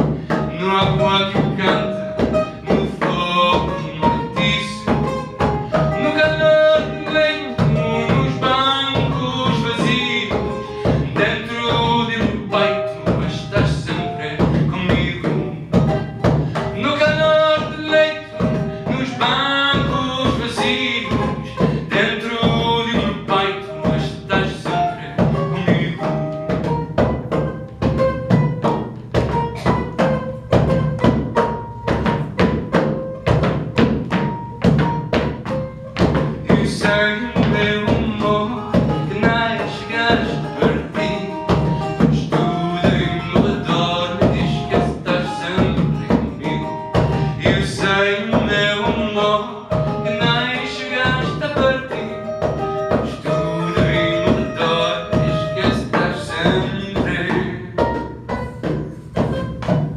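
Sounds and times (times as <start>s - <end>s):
person singing: 0.0s - 27.1s, 36.0s - 59.5s
double bass: 0.0s - 59.9s
strummed bouzouki: 0.0s - 59.9s.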